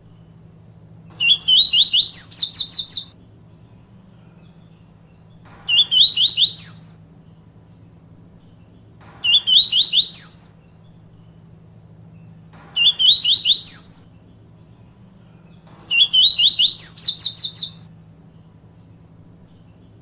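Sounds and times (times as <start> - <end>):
bird singing: 0.0 - 20.0
faint low hum: 0.0 - 20.0.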